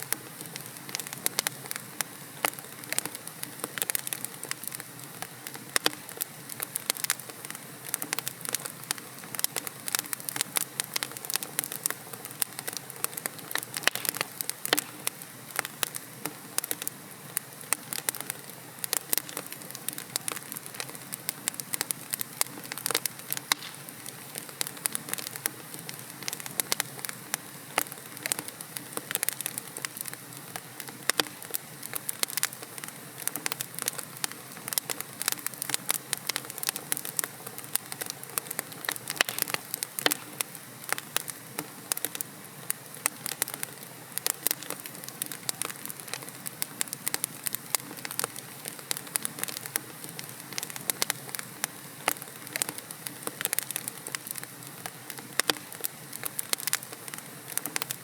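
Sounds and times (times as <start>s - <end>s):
fire hissing: 0.0s - 58.0s
sharp crackles and pops of fire: 0.0s - 58.0s.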